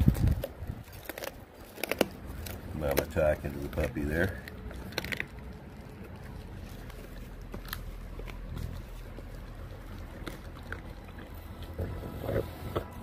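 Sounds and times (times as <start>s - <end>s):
dogs licking and chewing fish: 0.0s - 13.0s
low steady rumble: 0.0s - 13.0s.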